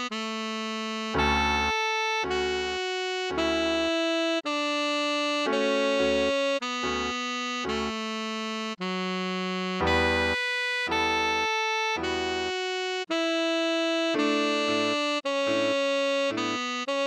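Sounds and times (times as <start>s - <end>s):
keyboard chords: 0.0s - 17.0s
tenor saxophone melody: 0.0s - 17.0s.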